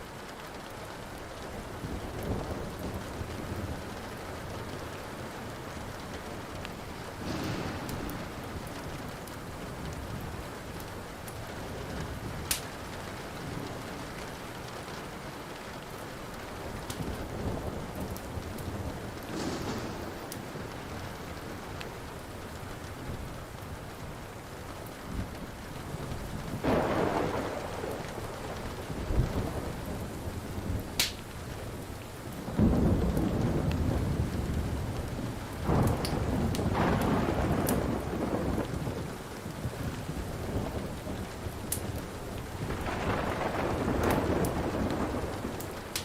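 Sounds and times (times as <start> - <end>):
steady rain: 0.0 - 46.0
wood fire crackling: 0.0 - 46.0
thunder rolling: 1.7 - 14.6, 16.5 - 24.2, 25.1 - 46.0.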